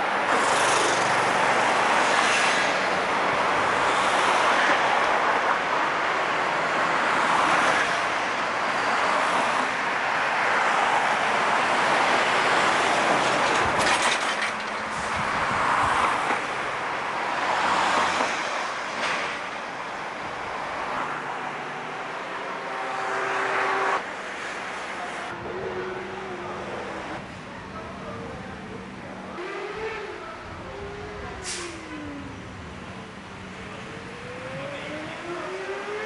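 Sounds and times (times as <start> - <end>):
rushing vehicle noise: 0.0 - 36.0.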